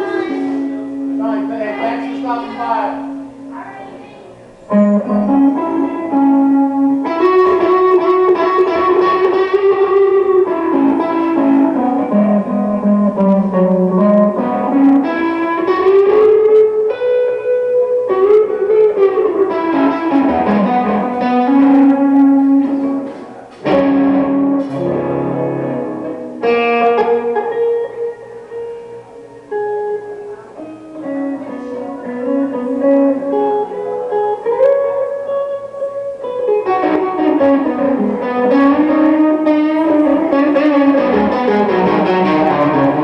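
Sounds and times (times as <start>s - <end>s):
solo blues guitar: 0.0s - 43.0s.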